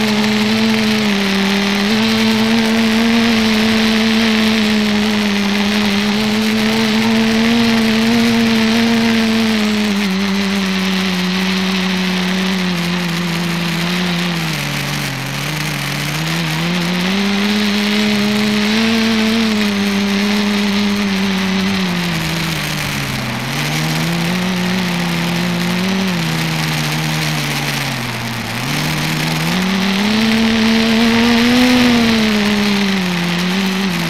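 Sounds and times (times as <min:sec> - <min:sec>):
drone motors buzzing whine: 0:00.0 - 0:34.0.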